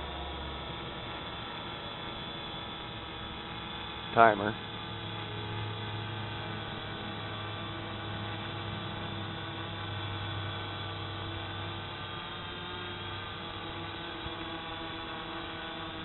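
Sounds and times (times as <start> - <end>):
quadcopter hovering hum: 0.0 - 16.0.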